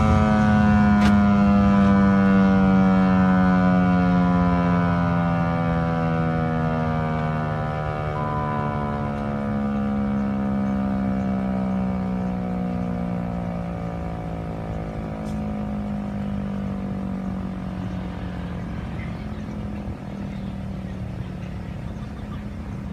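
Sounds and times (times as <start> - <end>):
steady low drone: 0.0 - 22.9
tornado siren winding down: 0.0 - 22.9.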